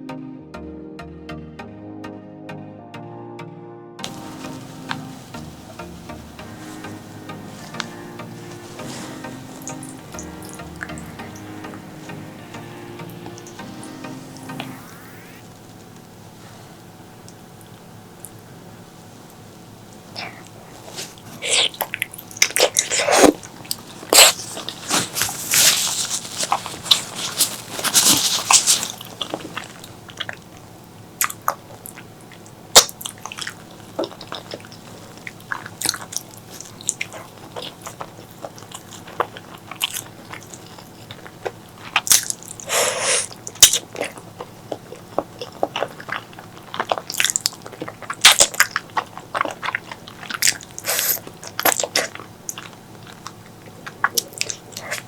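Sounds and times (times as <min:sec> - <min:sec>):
close-miked chewing and biting: 0:04.0 - 0:13.8, 0:20.1 - 0:55.0.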